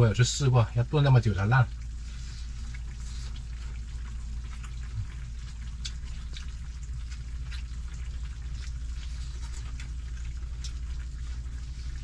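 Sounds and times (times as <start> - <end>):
steady low hum: 0.0 - 12.0
stew bubbling and crackling: 0.0 - 12.0.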